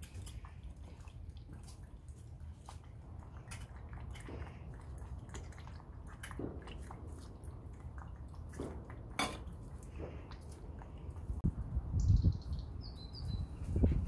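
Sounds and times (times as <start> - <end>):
dog lapping water: 0.0 - 11.4.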